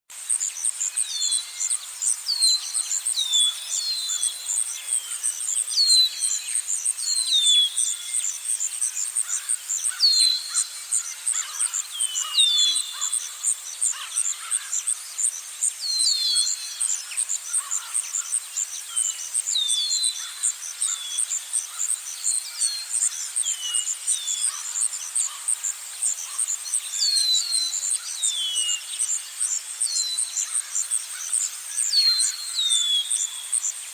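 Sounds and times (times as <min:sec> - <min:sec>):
high pulsing insect trill: 0:00.2 - 0:33.9.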